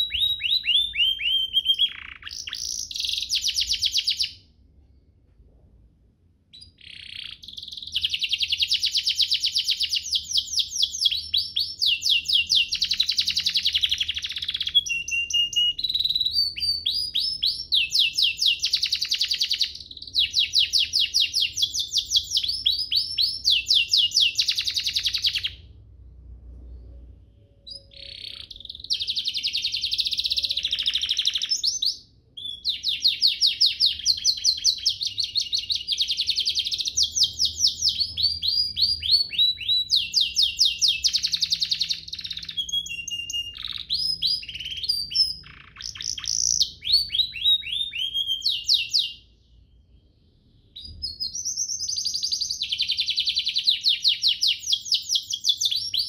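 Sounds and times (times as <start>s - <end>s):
canary singing trills: 0.0s - 4.5s, 6.5s - 25.8s, 26.8s - 56.0s.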